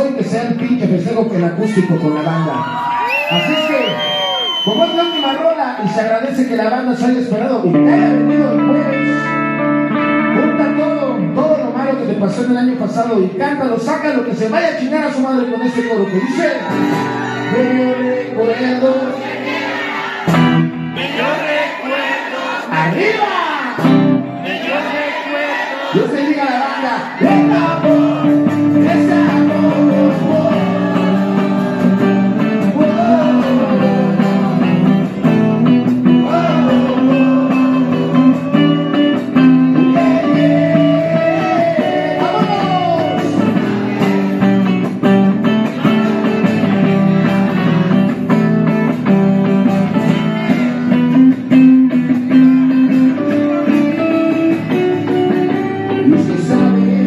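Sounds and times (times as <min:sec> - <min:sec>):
acoustic rock band playing: 0:00.0 - 0:57.0.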